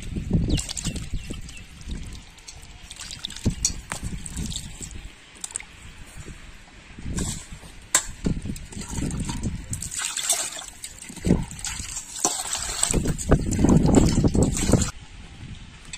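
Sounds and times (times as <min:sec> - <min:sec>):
water sloshing and dripping: 0:00.0 - 0:15.0.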